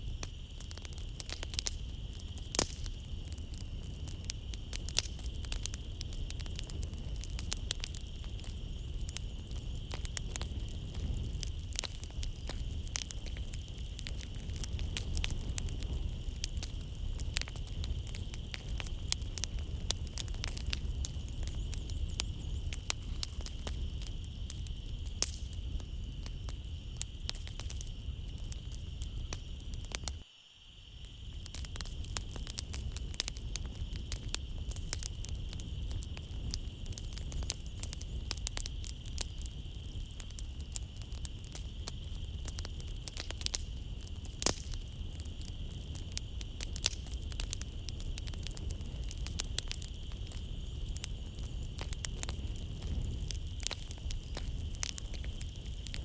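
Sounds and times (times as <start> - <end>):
wood fire crackling and popping: 0.0 - 30.2, 31.0 - 56.0
crickets chirring: 0.0 - 56.0.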